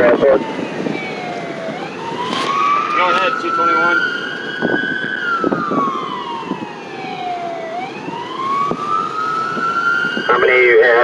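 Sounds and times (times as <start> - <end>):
electronic siren wailing: 0.0 - 11.0.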